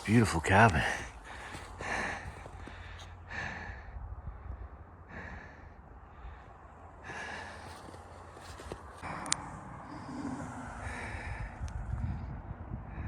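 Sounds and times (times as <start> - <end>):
person breathing: 0.0 - 13.0
steady low rumble: 0.0 - 13.0.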